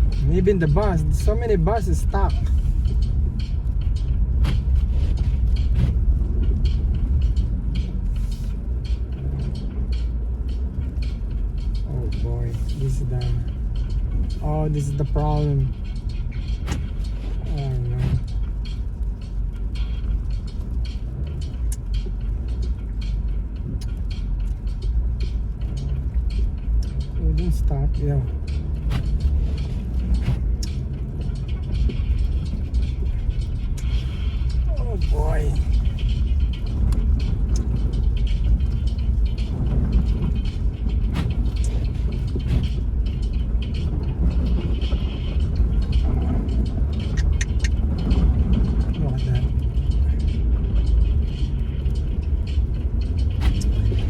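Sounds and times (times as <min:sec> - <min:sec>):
engine and tyre rumble: 0:00.0 - 0:54.0.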